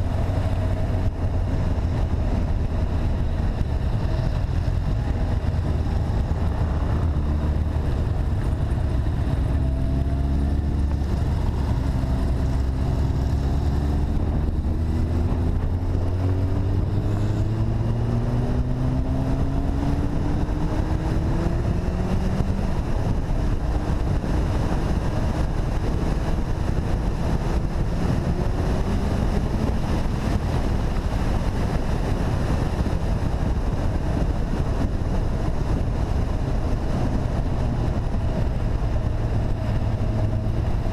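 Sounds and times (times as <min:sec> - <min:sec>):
wind and road rush: 0:00.0 - 0:40.9.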